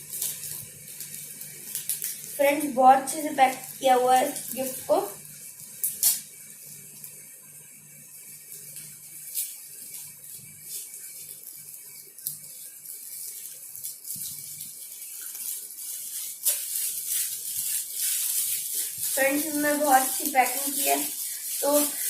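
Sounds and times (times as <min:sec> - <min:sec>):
gift wrap crinkling and rustling: 0:00.0 - 0:07.2, 0:08.5 - 0:22.0.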